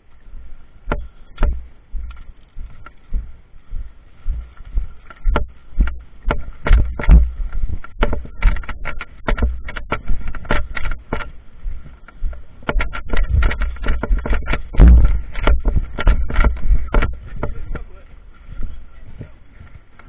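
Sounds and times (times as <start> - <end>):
sharp clicks and knocks: 0.8 - 18.2
heavy low thumps: 0.8 - 19.4.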